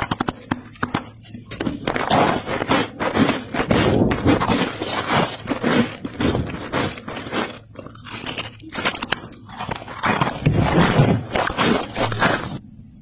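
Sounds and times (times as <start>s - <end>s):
frost crunching and squeaking: 0.0s - 13.0s.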